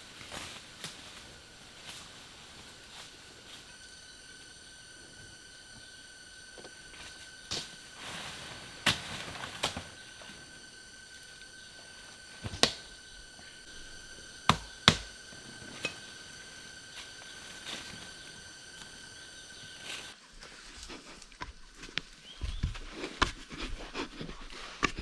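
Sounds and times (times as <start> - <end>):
high-pitched insect drone: 0.0 - 21.6.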